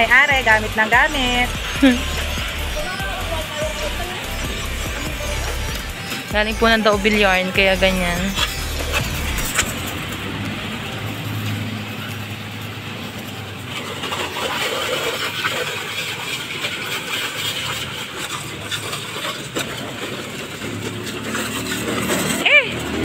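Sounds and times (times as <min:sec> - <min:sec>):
pressure washer pump hum: 0:00.0 - 0:23.0
water jet spraying: 0:00.0 - 0:23.0.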